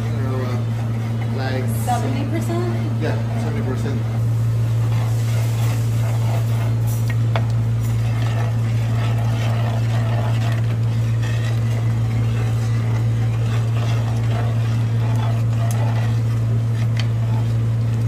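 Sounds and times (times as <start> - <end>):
low mechanical hum: 0.0 - 18.0
spoon scraping clay pot: 0.0 - 18.0.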